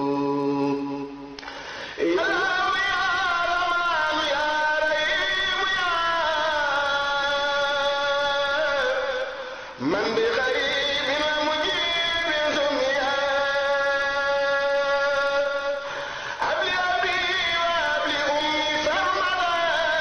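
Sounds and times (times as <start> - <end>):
person chanting unaccompanied: 0.0 - 1.3, 2.0 - 20.0.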